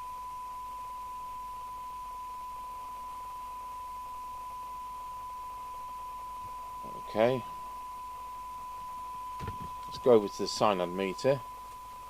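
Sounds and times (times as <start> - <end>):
steady test tone from radio: 0.0 - 12.0.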